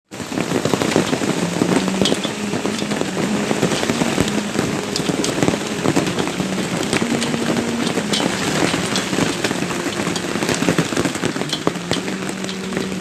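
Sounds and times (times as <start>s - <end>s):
heavy rain on hard surfaces: 0.0s - 13.0s
hailstones striking: 0.1s - 13.0s.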